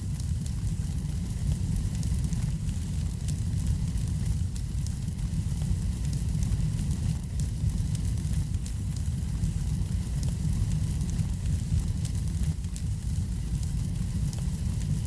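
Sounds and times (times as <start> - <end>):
fire crackles: 0.0 - 15.0
wood fire burning: 0.0 - 15.0.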